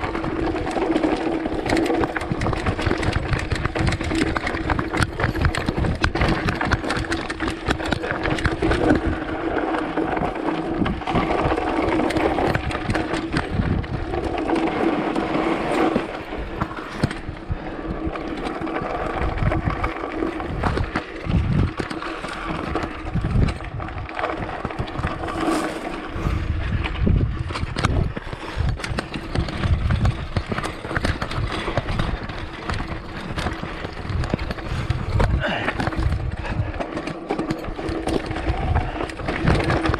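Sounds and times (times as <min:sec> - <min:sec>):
bike rattling and knocking: 0:00.0 - 0:39.9
tyres rolling over dirt and rocks: 0:00.0 - 0:39.9
wind buffeting microphone: 0:00.0 - 0:39.9.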